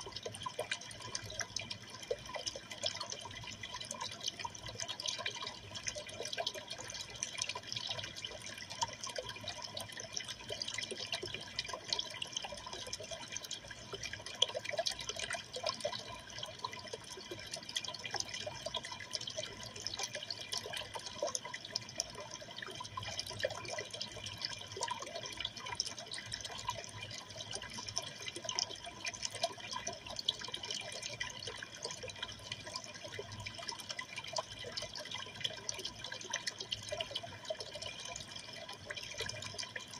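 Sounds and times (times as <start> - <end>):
aquarium water splashing: 0.0 - 39.9.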